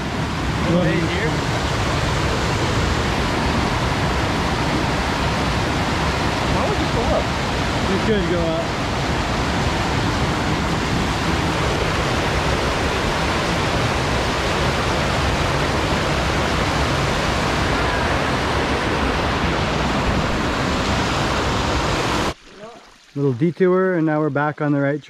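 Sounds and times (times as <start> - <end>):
white water rushing over rocks: 0.0 - 22.6.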